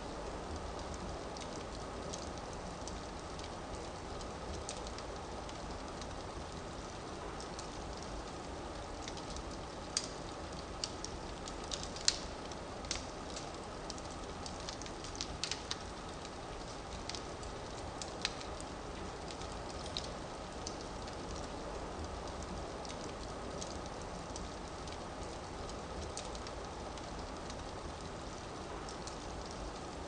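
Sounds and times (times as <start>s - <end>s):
fire burning with crackles: 0.0s - 30.0s.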